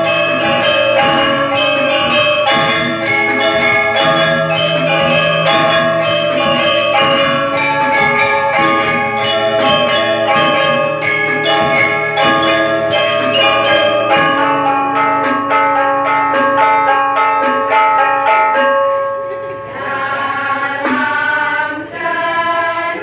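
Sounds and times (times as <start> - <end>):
bell-like tuned instruments music: 0.0 - 22.8.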